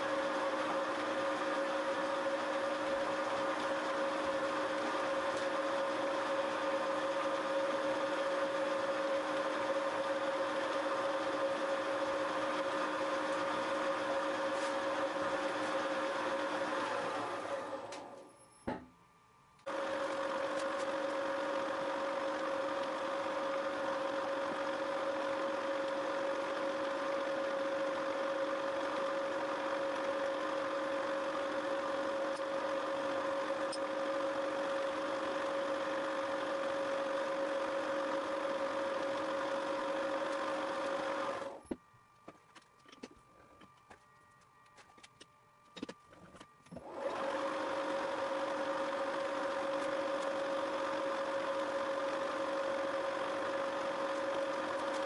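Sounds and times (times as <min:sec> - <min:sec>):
milling machine whine: 0:00.0 - 0:18.8, 0:19.6 - 0:55.0.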